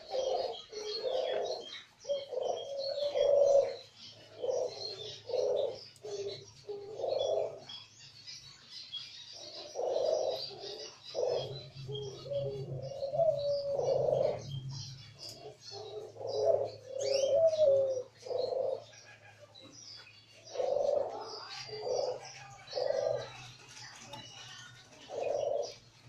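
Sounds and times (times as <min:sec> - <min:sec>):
doves cooing: 0:00.0 - 0:08.0, 0:09.3 - 0:26.0
small birds chirping: 0:00.0 - 0:26.0.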